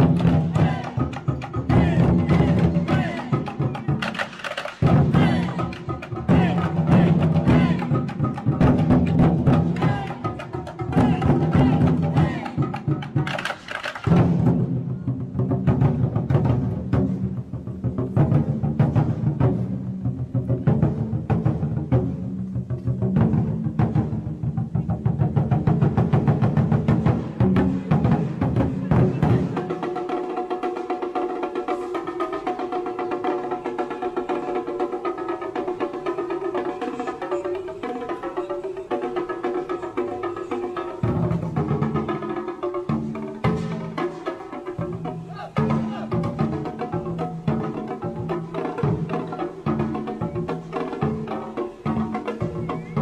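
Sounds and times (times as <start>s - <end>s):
large barrel drums beaten: 0.0s - 36.7s, 39.4s - 53.0s.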